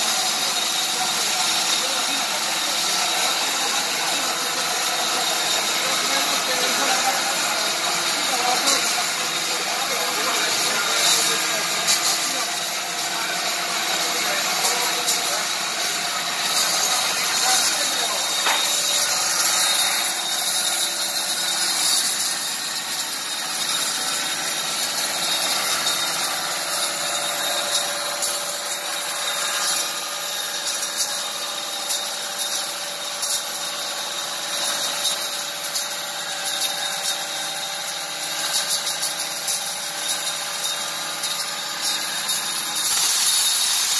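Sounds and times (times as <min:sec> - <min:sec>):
sawmill sawing timber: 0:00.0 - 0:43.9.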